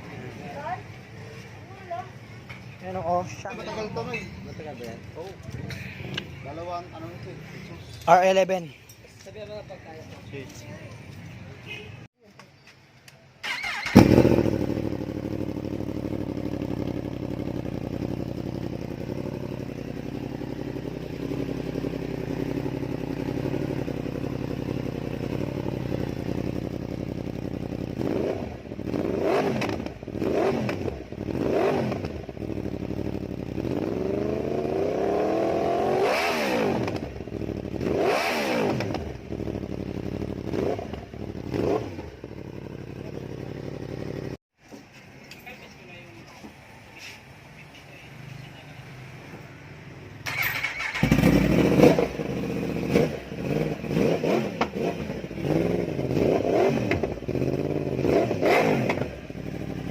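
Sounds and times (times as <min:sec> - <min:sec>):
motorcycle engine idling and revving: 0:00.0 - 0:12.2, 0:13.4 - 0:44.6, 0:45.4 - 0:59.9.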